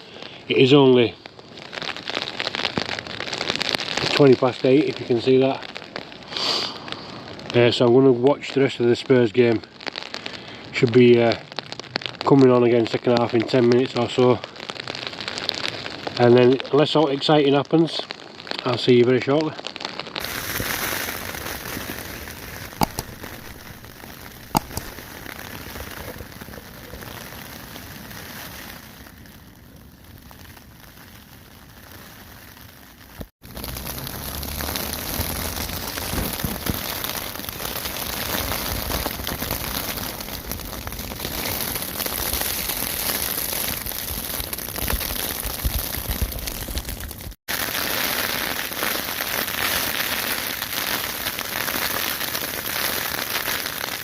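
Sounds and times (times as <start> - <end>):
rain on a tent: 0.0 - 54.0.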